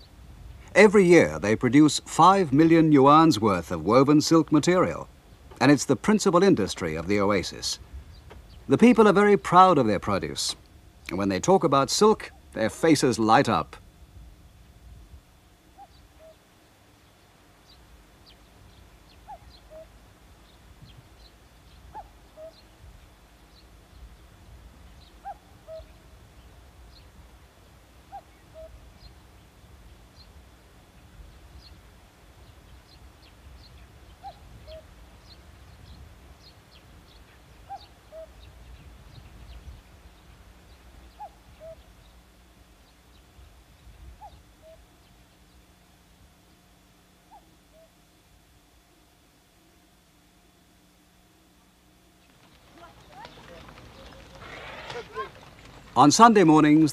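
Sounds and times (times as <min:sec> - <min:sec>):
small birds chirping faintly: 0:00.0 - 0:56.9.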